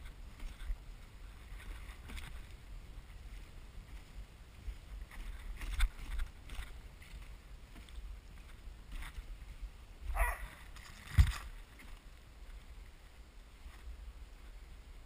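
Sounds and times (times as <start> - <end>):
sled runners sliding over snow: 0.0 - 15.0.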